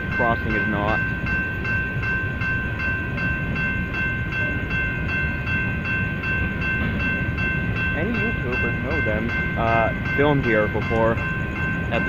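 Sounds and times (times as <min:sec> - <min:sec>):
crossing warning bell ringing: 0:00.0 - 0:12.0
train cars rumbling past: 0:00.0 - 0:12.0.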